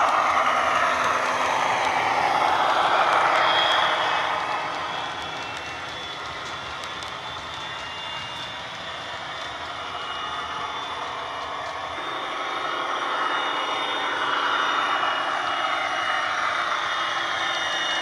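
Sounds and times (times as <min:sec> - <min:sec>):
model locomotive diesel engine sound: 0:00.0 - 0:18.0.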